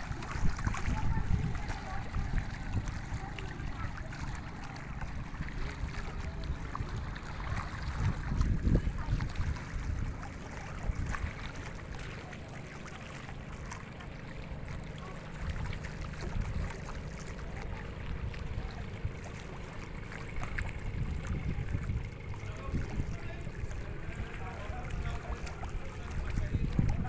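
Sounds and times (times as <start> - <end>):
wind buffeting microphone: 0.0 - 12.3, 15.0 - 27.0
faint lapping of waves: 0.0 - 27.0.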